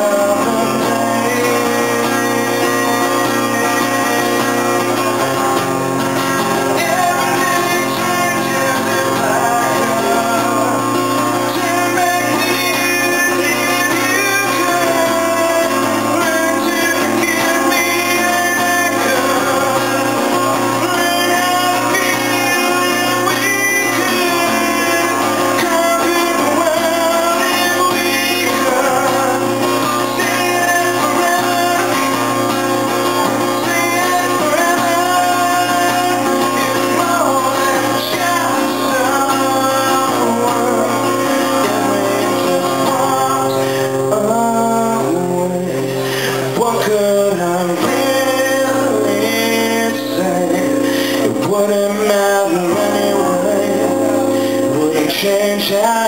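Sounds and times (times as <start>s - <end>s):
acoustic guitar chords: 0.0s - 56.0s
man singing into a microphone: 0.0s - 56.0s.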